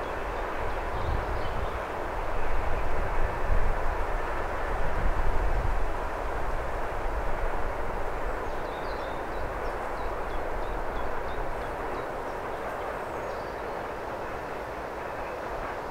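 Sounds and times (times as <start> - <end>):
freight train rumbling on rails: 0.0 - 15.9.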